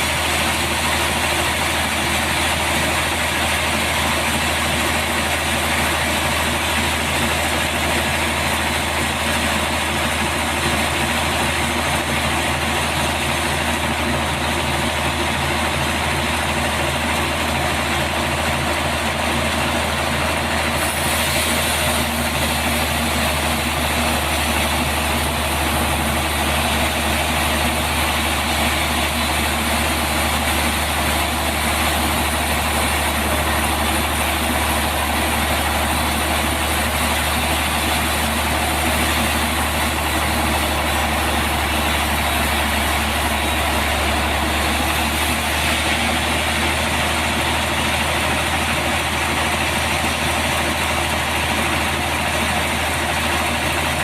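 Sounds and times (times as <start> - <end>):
sawmill running: 0.0 - 54.0.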